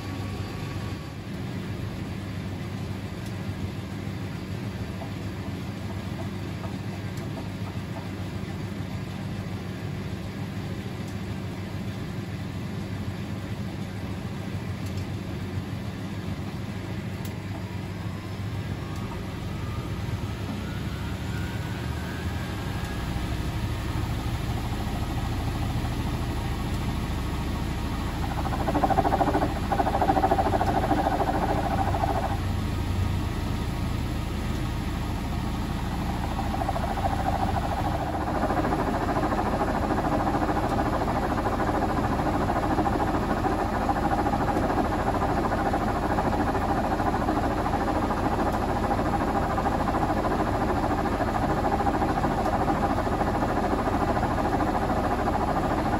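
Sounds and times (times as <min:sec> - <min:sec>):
washing machine spin whine and rumble: 0:00.0 - 0:55.9.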